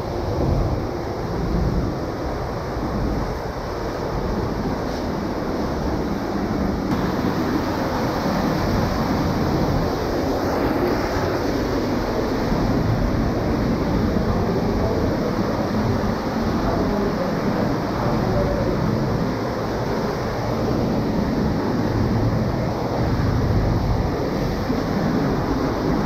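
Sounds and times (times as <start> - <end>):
flowing water in a stream: 0.0 - 26.0.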